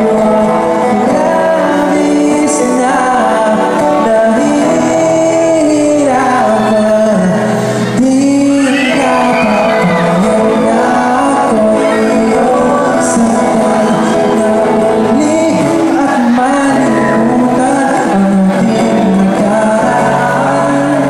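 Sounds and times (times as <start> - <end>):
acoustic guitar: 0.0 - 21.0
woman and man singing: 0.0 - 21.0.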